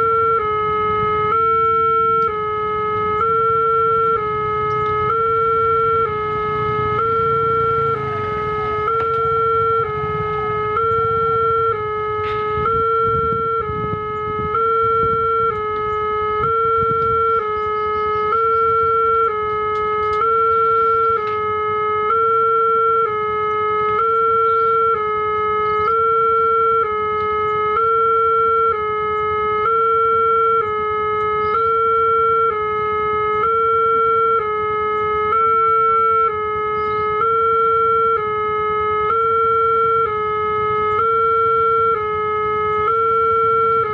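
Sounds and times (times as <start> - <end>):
level crossing two-tone alarm: 0.0 - 43.9.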